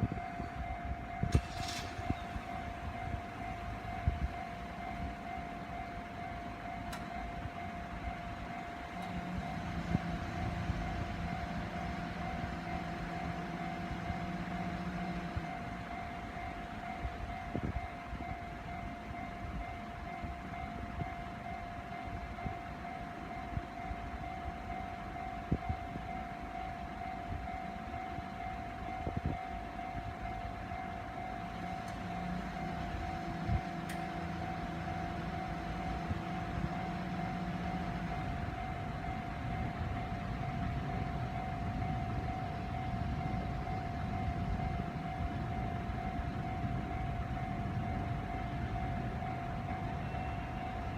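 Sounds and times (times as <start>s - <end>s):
constant rumble: 0.0s - 50.9s
crossing warning bell: 0.0s - 50.9s.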